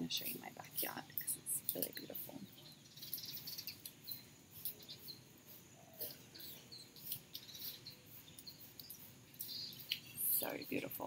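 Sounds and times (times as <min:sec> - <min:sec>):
insects and birds chirping: 0:00.0 - 0:11.0.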